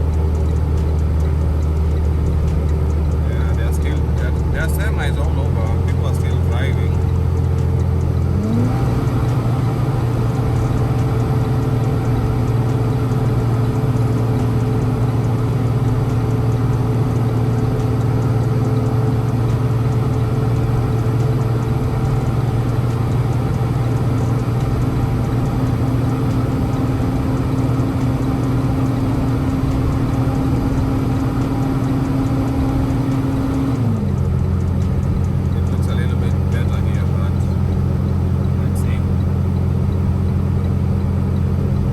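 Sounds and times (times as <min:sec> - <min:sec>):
road noise rushing: 0:00.0 - 0:41.9
truck diesel engine running: 0:00.0 - 0:41.9.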